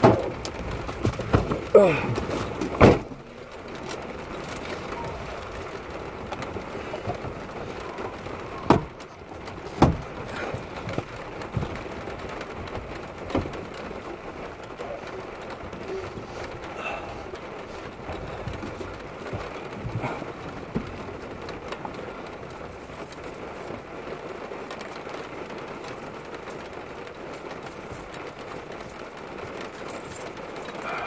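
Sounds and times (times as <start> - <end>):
rain on window glass: 0.0 - 31.0.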